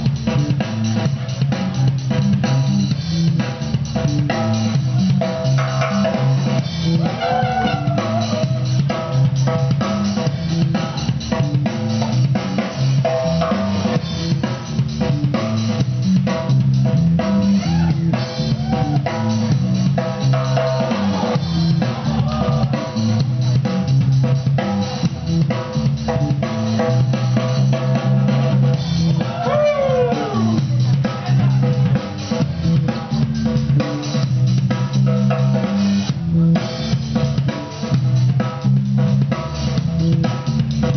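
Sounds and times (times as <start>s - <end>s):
dance music with drum beat and bass: 0.0s - 40.9s.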